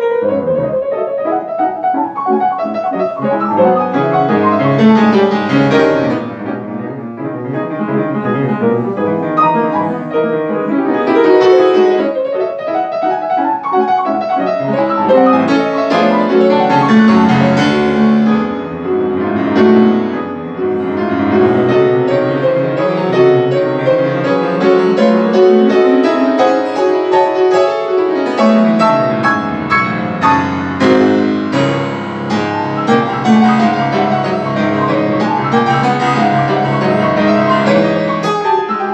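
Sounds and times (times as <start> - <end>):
solo classical piano: 0.0 - 38.9.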